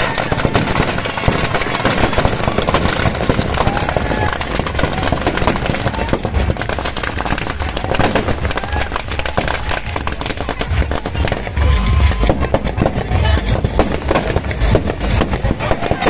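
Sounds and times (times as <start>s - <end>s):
firecrackers crackling: 0.0s - 16.0s.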